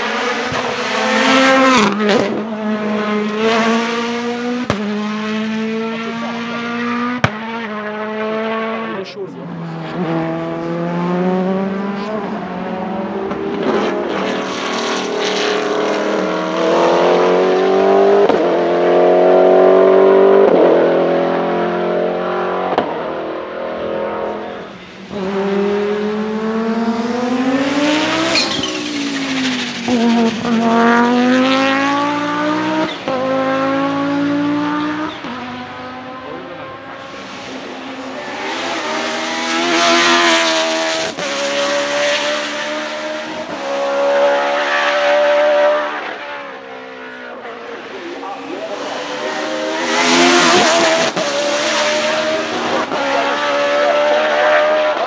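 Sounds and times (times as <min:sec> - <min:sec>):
race car engine revving: 0:00.0 - 0:55.0
race car passing: 0:00.0 - 0:55.0.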